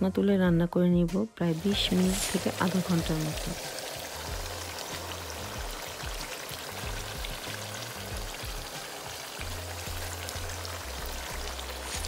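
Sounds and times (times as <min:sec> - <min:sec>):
background music with bass line: 0:00.0 - 0:12.0
curry sizzling in oil: 0:01.4 - 0:12.0.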